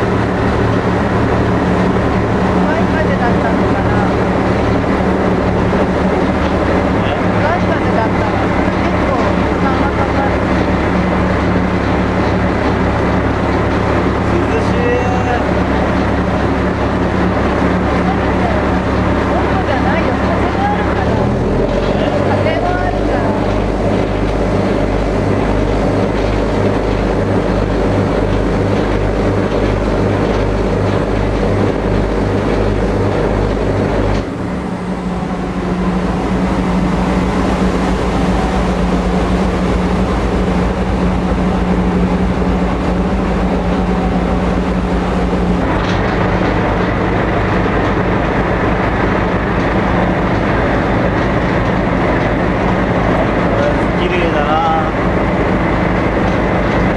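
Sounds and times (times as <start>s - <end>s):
ferry engines droning: 0.0s - 56.9s.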